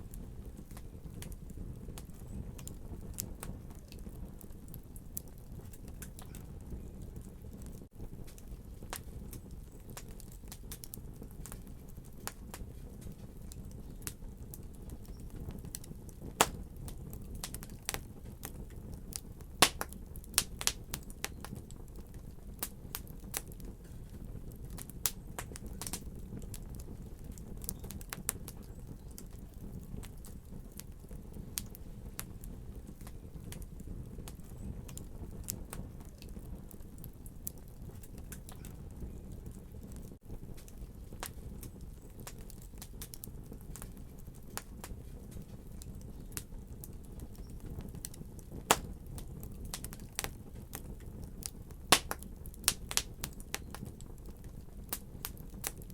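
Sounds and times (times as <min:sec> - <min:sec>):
low rumble of burning: 0:00.0 - 0:55.9
wood fire crackling: 0:00.0 - 0:55.9.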